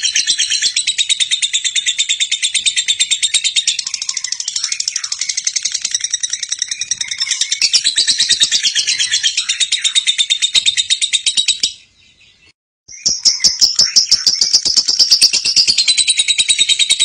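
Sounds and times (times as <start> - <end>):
lovebird chattering trill: 0.0 - 12.0, 12.9 - 17.0.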